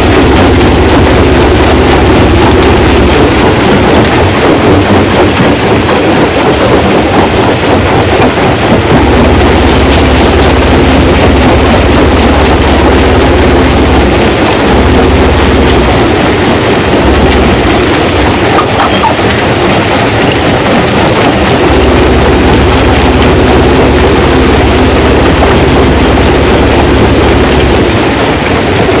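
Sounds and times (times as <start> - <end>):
heavy engine drone: 0.0 - 29.0
rattling and grinding: 0.0 - 29.0.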